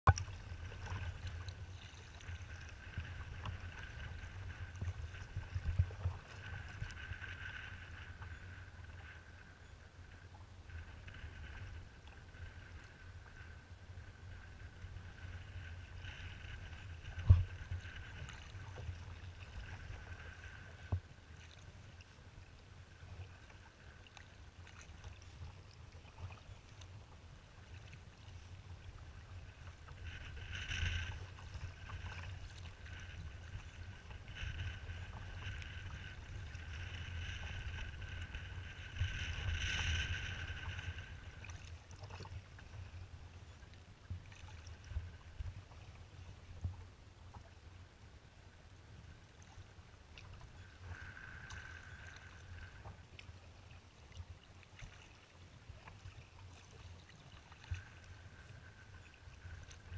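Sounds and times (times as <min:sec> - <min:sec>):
water splashing against hull: 0:00.0 - 0:48.0, 0:49.0 - 0:59.9.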